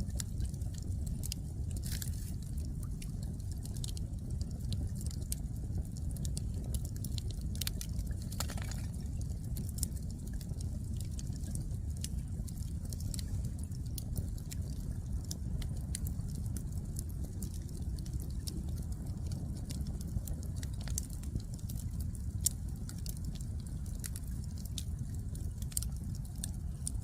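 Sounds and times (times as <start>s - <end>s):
fire low rumble: 0.0s - 27.0s
firewood crackling and popping: 0.0s - 27.0s.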